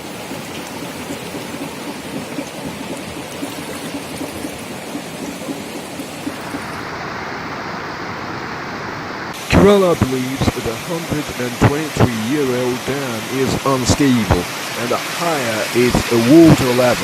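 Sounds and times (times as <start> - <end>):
water rushing and hissing: 0.0 - 17.0.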